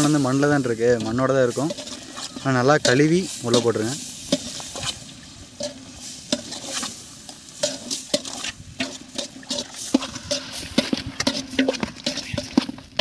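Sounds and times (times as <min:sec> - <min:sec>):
ladle scraping and knocking pot: 0:00.0 - 0:05.0, 0:05.6 - 0:13.0
frying in oil: 0:00.0 - 0:13.0.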